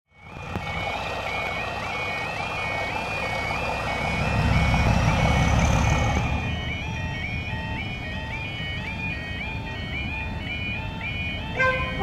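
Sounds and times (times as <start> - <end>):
level crossing alarm: 0.1 - 12.0.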